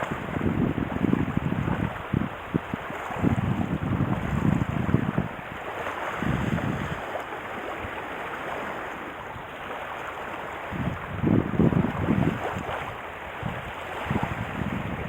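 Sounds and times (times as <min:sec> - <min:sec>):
water rushing: 0:00.0 - 0:15.0
wind buffeting microphone: 0:00.0 - 0:15.0.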